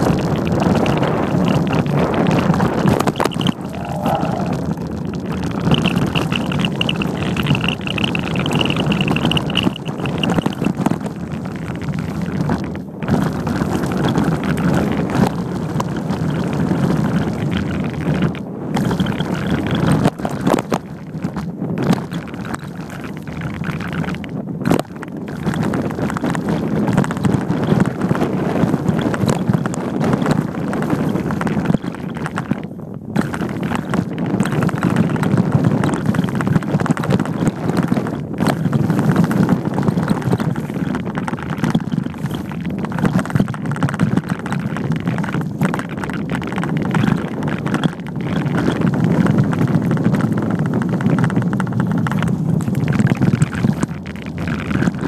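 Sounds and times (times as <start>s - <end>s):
bike rattling and knocking: 0.0s - 4.0s, 4.7s - 55.0s
wind noise on microphone: 0.0s - 55.0s.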